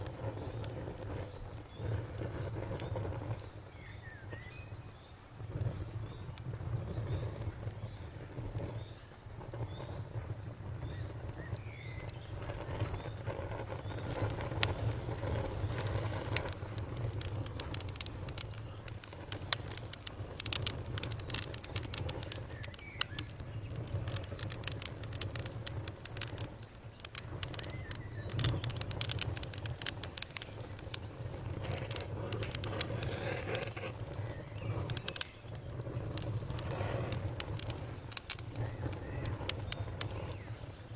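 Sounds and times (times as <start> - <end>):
cricket trilling: 0.0 - 40.9
wood fire crackling and popping: 0.0 - 40.9.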